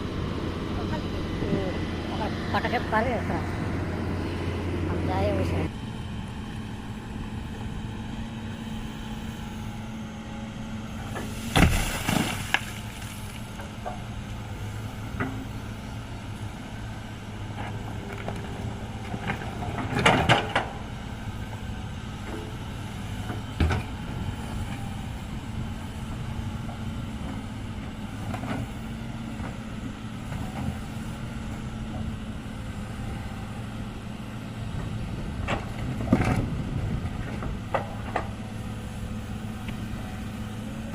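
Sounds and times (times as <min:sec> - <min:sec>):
heavy diesel machinery humming: 0:00.0 - 0:40.9.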